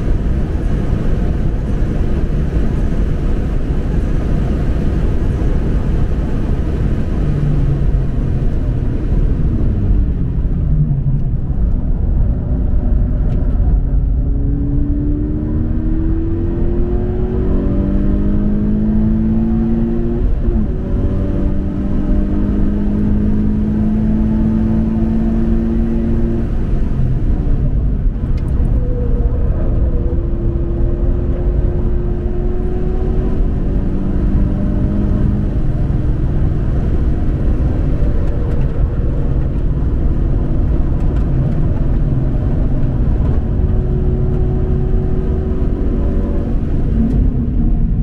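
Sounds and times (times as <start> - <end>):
car engine pulling hard: 0.0 - 48.0
wind and road noise: 0.0 - 48.0.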